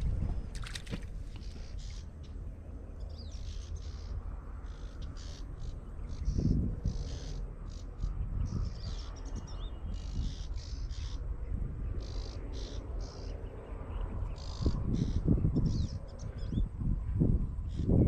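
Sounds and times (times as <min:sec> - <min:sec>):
birds chirping: 0:00.0 - 0:16.8.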